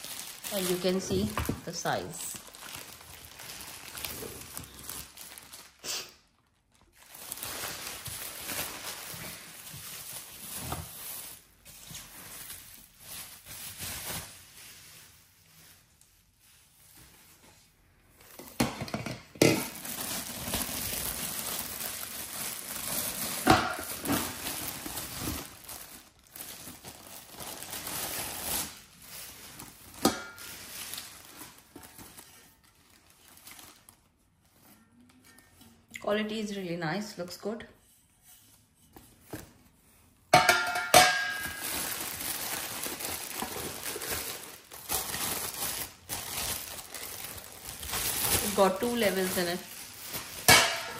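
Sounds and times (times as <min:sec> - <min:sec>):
bubble wrap crinkling: 0:00.0 - 0:18.5, 0:19.4 - 0:35.4, 0:40.9 - 0:50.9.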